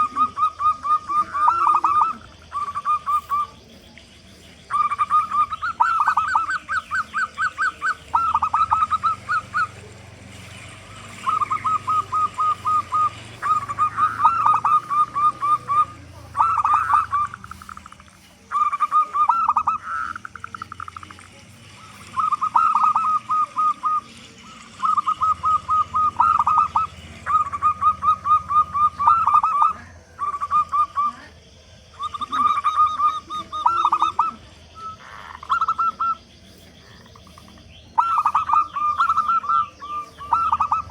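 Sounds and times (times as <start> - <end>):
birds chirping: 0.0 - 40.9
dove cooing: 0.0 - 40.9.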